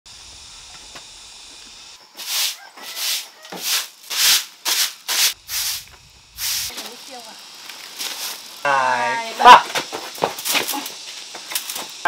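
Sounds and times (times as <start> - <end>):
steady hiss: 0.1 - 12.0.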